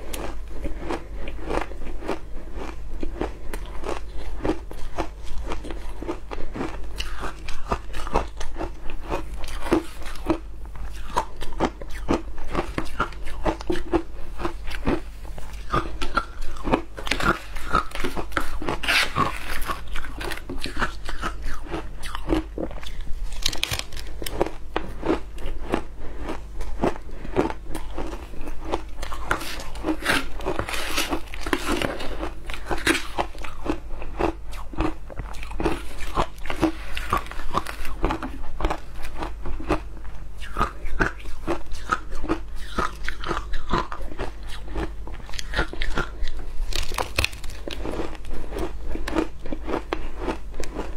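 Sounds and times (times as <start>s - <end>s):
crunching and chewing ice: 0.0s - 50.9s
steady low hum: 0.0s - 50.9s.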